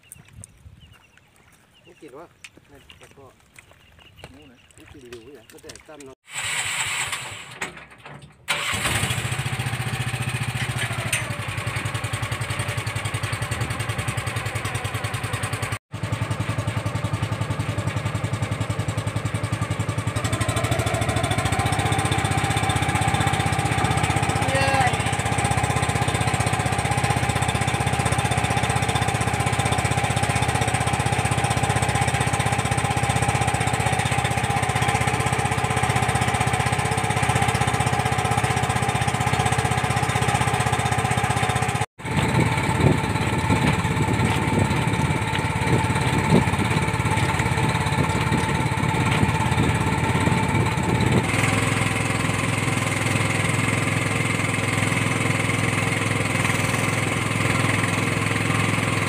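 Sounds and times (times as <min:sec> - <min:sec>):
boat engine running: 0:08.6 - 0:59.0.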